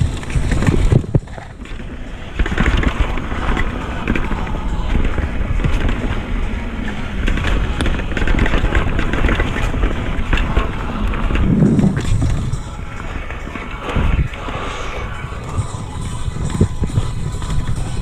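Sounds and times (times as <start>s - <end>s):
bike rattling over bumps: 0.0s - 18.0s
bike tyres on dirt: 0.0s - 18.0s
wind on microphone: 0.0s - 18.0s.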